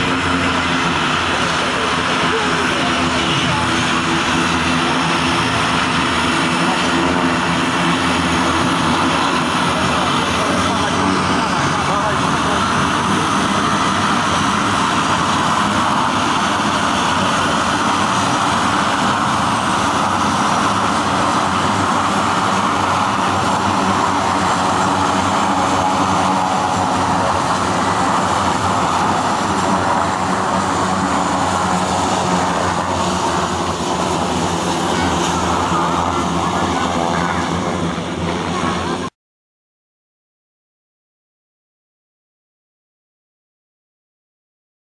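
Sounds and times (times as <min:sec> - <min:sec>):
aircraft engine humming: 0:00.0 - 0:39.2.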